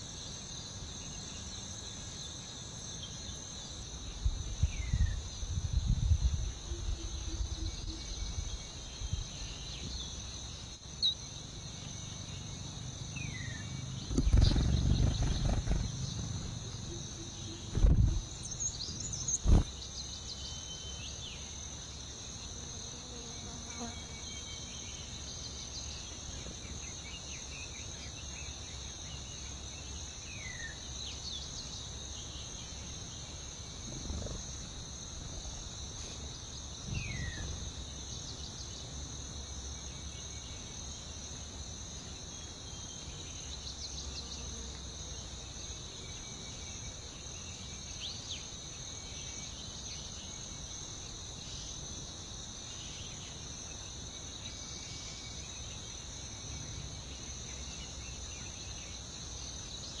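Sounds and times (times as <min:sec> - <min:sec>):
high insect chorus: 0:00.0 - 1:00.0.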